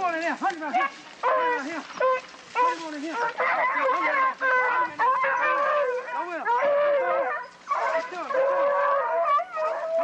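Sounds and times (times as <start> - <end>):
hounds barking and baying: 0.6 - 10.0.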